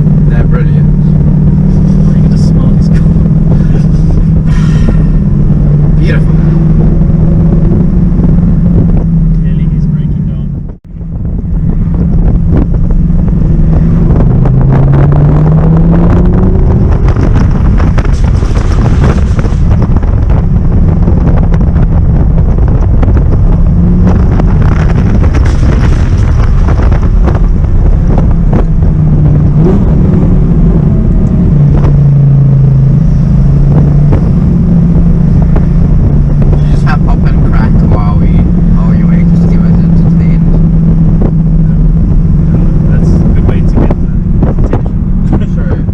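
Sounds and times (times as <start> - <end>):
car engine accelerating: 0.0 - 45.9
wind noise: 0.0 - 45.9.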